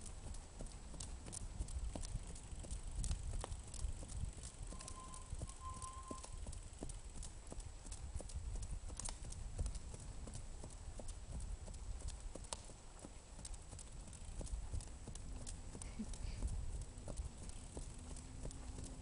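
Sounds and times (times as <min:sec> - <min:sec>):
horse hoofbeats on dirt: 0:00.0 - 0:19.0.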